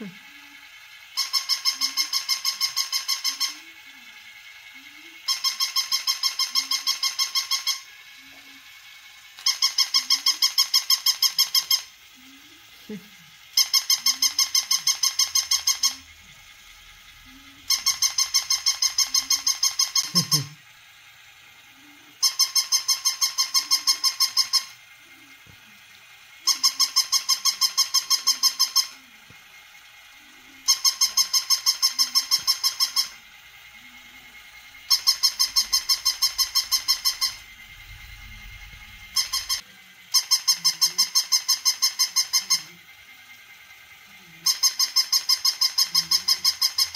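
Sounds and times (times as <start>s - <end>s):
toy puppy electronic yaps: 0.0s - 43.0s, 43.7s - 46.9s.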